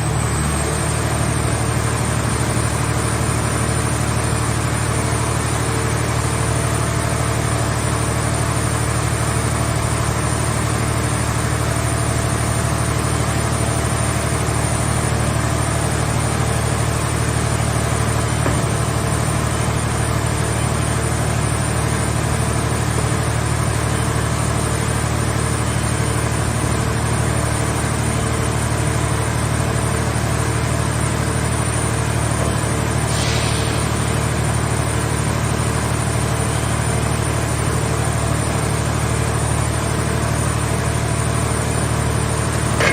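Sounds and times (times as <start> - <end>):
hydraulic power unit drone: 0.0 - 42.9.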